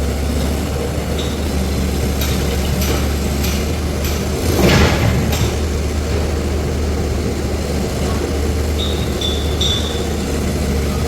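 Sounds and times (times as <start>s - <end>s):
vehicle engine droning: 0.0s - 11.0s
sharp knocks or clanks: 1.1s - 11.0s.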